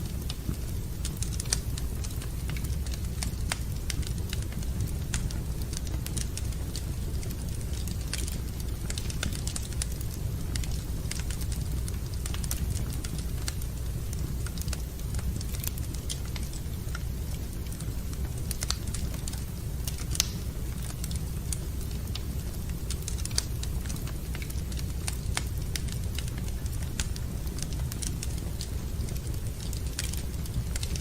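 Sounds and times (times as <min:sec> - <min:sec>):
low fire rumble: 0:00.0 - 0:31.0
wood fire crackling and popping: 0:00.0 - 0:31.0.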